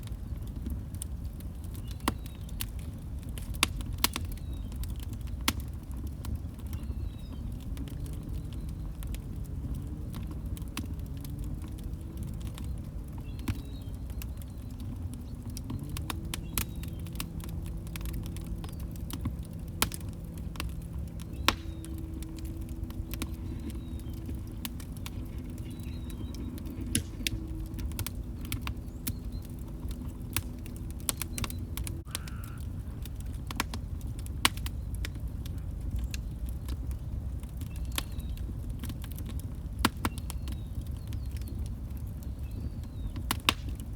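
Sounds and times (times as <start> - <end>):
log fire crackling: 0.0 - 43.9.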